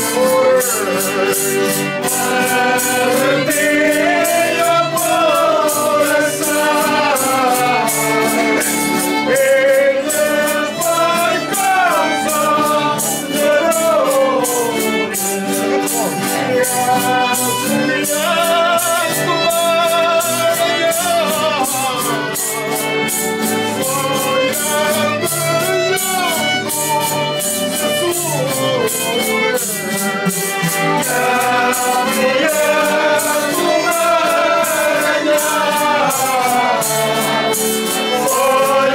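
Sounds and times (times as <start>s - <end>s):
group of voices singing: 0.0s - 38.9s
instrumental accompaniment: 0.0s - 38.9s
steady percussive beat: 0.0s - 38.9s.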